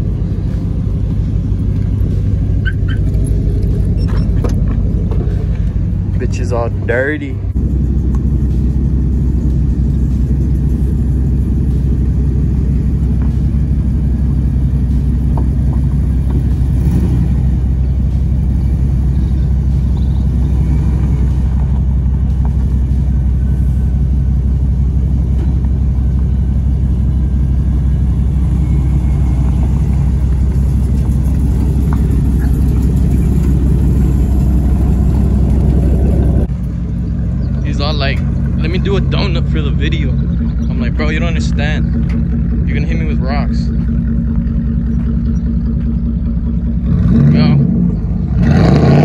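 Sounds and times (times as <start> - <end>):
pickup truck engine rumbling: 0.0 - 49.0.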